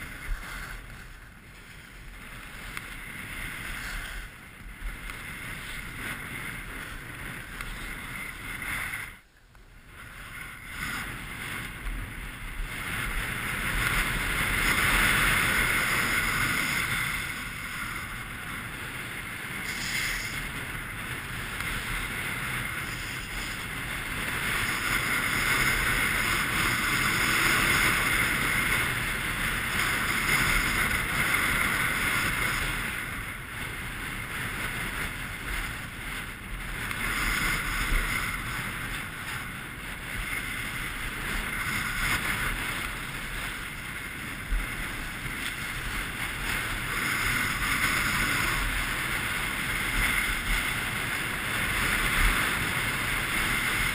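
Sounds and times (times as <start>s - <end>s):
skis scraping over packed snow: 0.0s - 53.9s
wind rushing over microphone: 0.0s - 53.9s.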